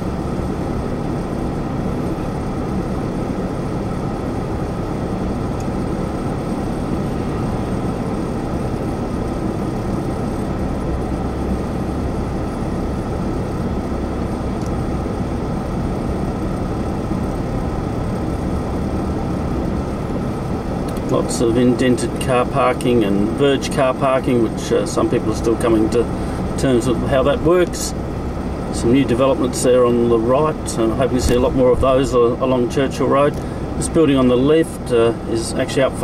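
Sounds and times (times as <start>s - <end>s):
car engine and tyre noise: 0.0s - 36.0s.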